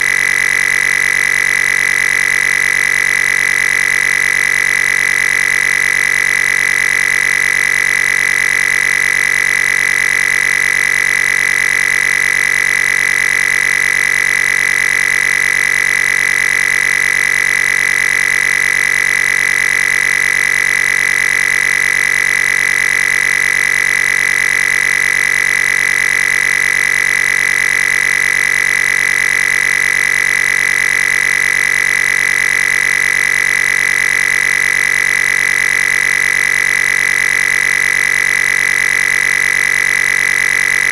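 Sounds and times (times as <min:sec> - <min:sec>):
electronic buzz with high whine: 0:00.0 - 0:40.9.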